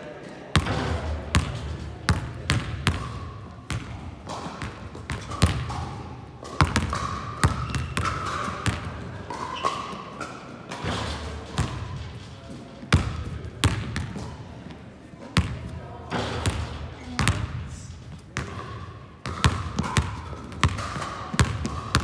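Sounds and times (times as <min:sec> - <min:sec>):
basketballs bouncing on hall floor: 0:00.5 - 0:22.0.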